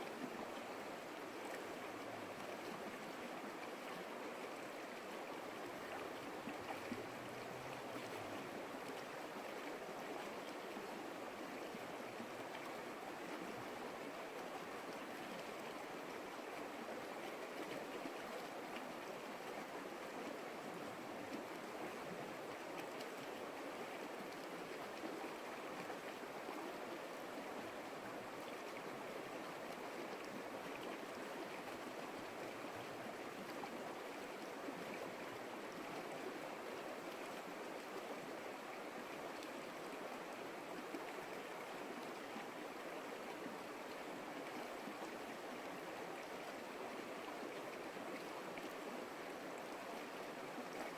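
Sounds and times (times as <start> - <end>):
creek water flowing: 0.0 - 50.9.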